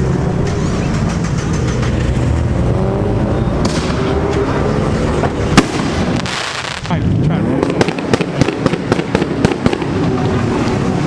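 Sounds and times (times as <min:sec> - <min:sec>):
car engine and exhaust rumbling: 0:00.0 - 0:11.0
exhaust cracks: 0:00.0 - 0:11.0.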